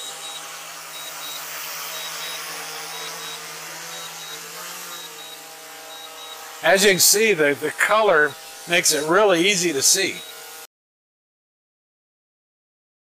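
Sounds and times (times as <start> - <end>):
drone propellers buzzing: 0.0 - 10.6.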